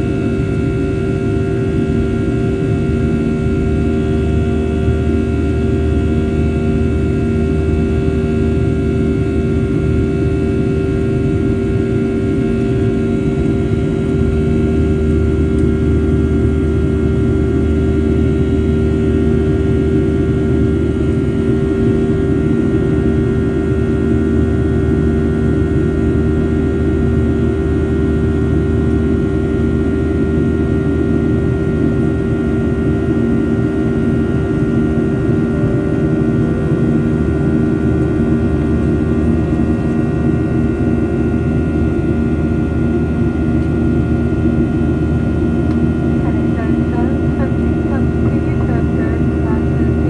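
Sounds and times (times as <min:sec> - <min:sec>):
constant humming tones: 0:00.0 - 0:50.0
jet engine drone: 0:00.0 - 0:50.0.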